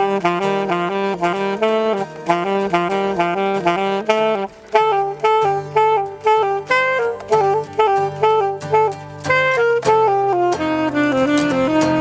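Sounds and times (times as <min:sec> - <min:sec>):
acoustic guitar accompaniment: 0:00.0 - 0:12.0
saxophone playing fast notes: 0:00.0 - 0:12.0.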